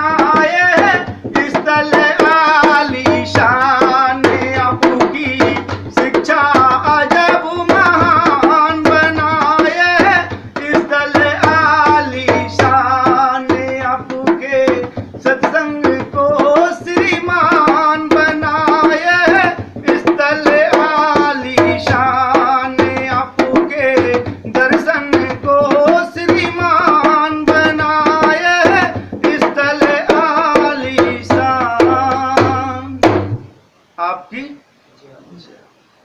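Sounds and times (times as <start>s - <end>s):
tabla playing a rhythm: 0.0s - 33.5s.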